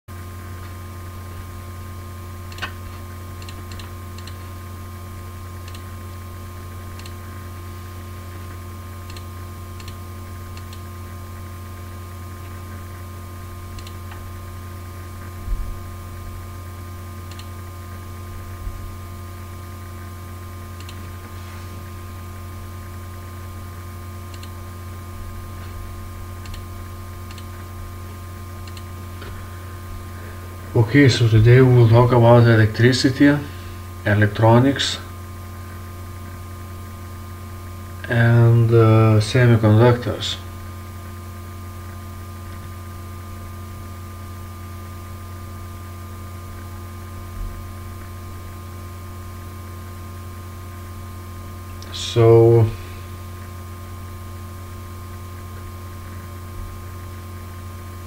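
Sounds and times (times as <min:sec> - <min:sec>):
electrical hum: 0:00.1 - 0:58.0.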